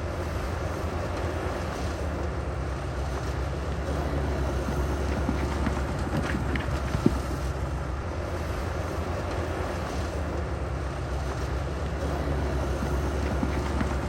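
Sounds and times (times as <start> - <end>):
heavy diesel machinery running: 0.0 - 14.0.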